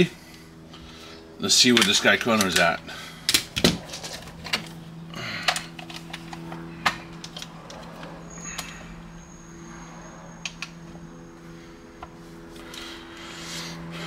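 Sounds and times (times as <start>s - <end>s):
faint high whine: 0.0s - 14.0s
low hum: 0.0s - 14.0s.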